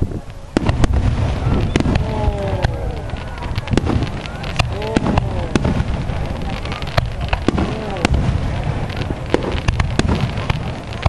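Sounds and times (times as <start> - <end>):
continuous low rumble: 0.0 - 11.0
fireworks bangs and crackles: 0.0 - 11.0.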